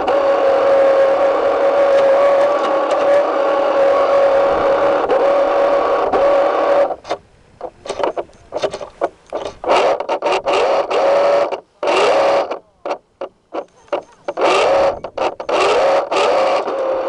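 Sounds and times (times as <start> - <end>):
boat motor whining: 0.0 - 17.0.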